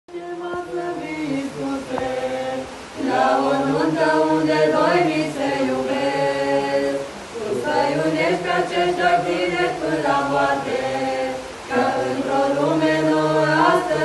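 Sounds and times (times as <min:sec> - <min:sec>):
group singing unaccompanied: 0:00.1 - 0:14.0.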